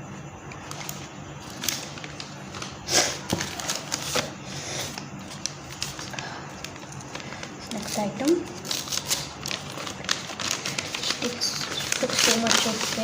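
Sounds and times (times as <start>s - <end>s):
packaging rustling: 0.5s - 13.0s.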